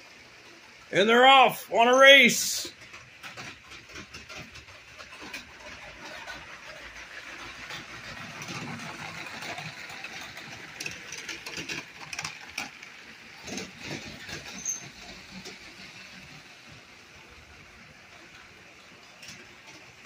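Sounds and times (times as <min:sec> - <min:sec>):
toy train motors whirring: 0:00.0 - 0:20.0
clicks and rattles on plastic track: 0:02.7 - 0:20.0.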